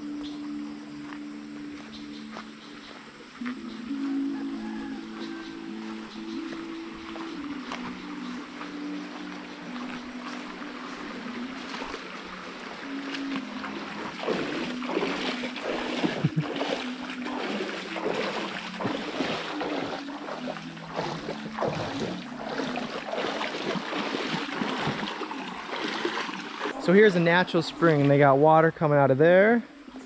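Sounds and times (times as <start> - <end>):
footsteps wading through stream: 0.0 - 29.0.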